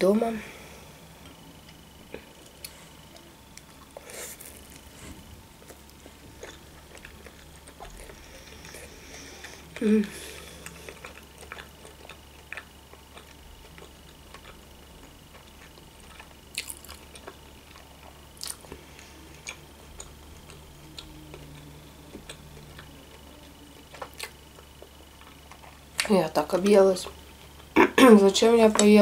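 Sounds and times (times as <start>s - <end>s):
chewing with wet smacks: 1.2s - 27.8s.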